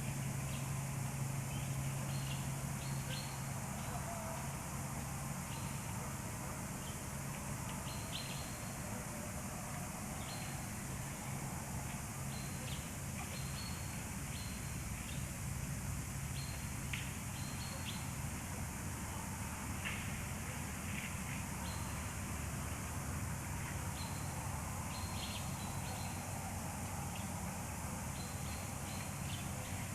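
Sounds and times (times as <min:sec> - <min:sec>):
background hiss: 0:00.0 - 0:29.9.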